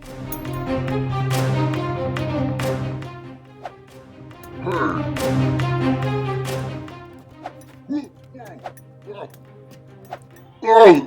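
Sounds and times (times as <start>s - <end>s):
background music with percussive hits: 0.0s - 10.4s.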